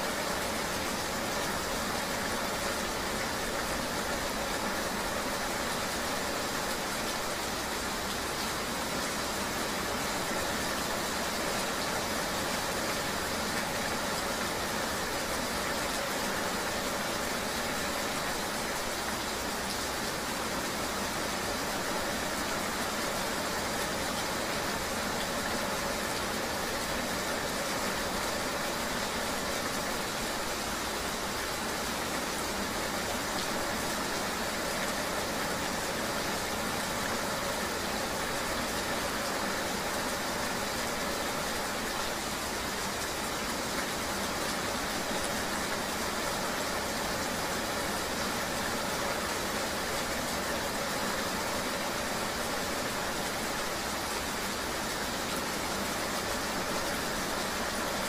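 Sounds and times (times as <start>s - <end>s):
rain hiss: 0.0s - 58.0s.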